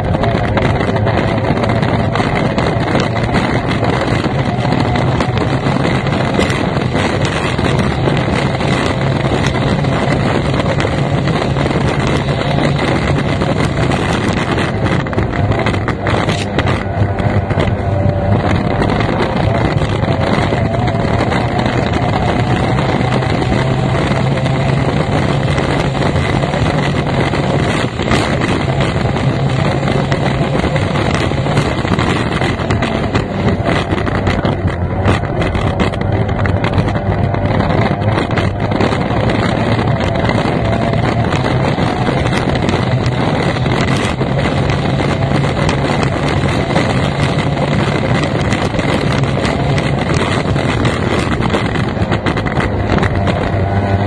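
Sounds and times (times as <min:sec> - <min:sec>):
powerboat outboard engine racing: 0:00.0 - 0:54.0
rush of wind and water: 0:00.0 - 0:54.0.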